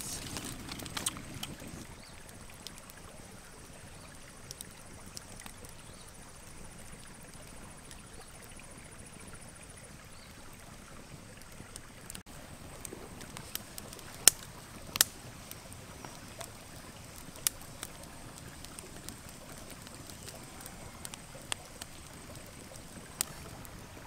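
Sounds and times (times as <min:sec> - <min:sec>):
wood fire crackling: 0:00.0 - 0:08.2, 0:11.4 - 0:24.0.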